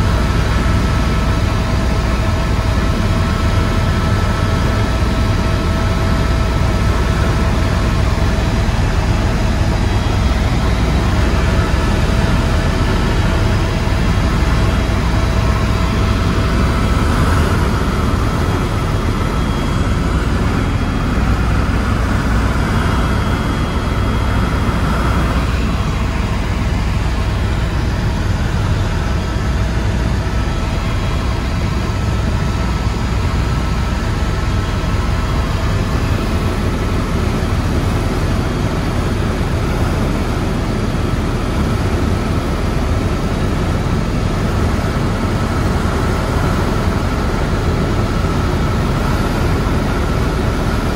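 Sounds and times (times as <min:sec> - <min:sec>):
helicopter engine drone in cabin: 0:00.0 - 0:50.9.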